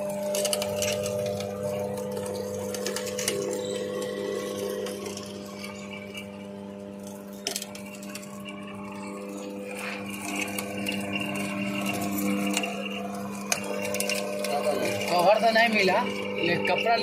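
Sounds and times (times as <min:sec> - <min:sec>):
juice machine motor hum: 0:00.0 - 0:17.0
sugarcane crushed in rollers: 0:00.0 - 0:17.0.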